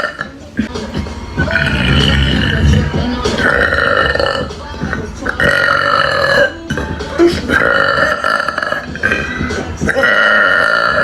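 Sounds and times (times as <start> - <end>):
woman burping: 0.0 - 0.7, 1.4 - 11.0.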